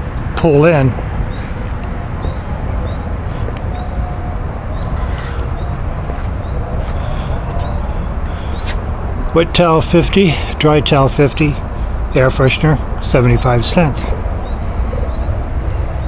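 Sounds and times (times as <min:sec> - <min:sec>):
insects droning: 0:00.0 - 0:16.0
faint chirps: 0:00.4 - 0:16.0.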